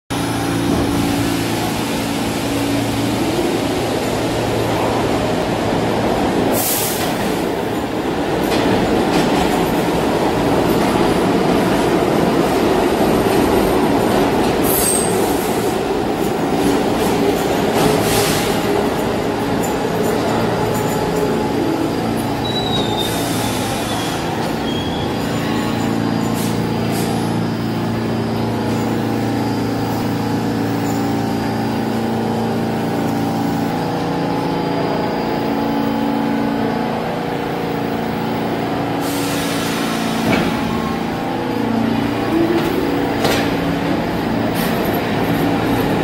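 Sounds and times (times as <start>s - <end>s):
subway train wheels rumbling: 0.1s - 46.0s.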